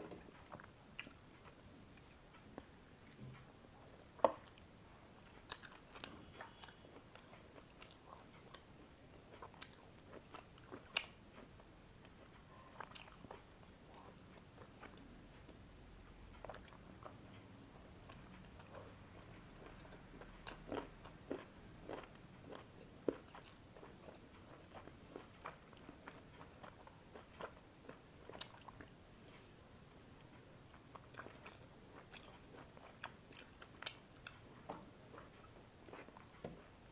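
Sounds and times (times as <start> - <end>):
person chewing food: 0.0 - 15.6, 16.3 - 17.3, 18.0 - 36.9.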